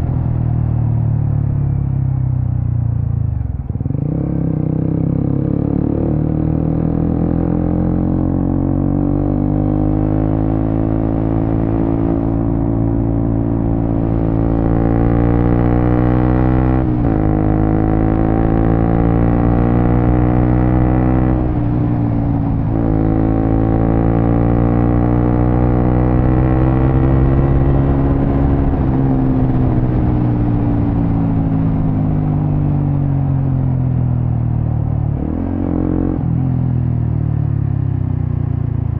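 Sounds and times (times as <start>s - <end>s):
motorcycle engine revving: 3.6s - 37.8s.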